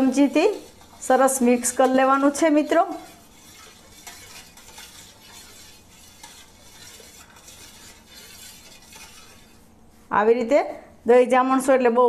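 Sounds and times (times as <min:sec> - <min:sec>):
spoon stirring milk: 0:00.0 - 0:10.0.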